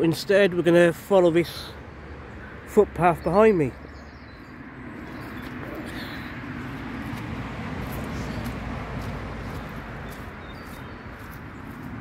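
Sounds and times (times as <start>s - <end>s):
vehicle passing by: 0.6s - 12.0s.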